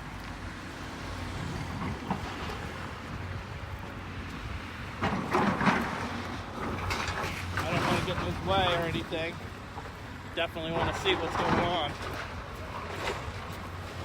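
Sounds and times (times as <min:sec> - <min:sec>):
demolition machine engine: 0:00.0 - 0:14.0.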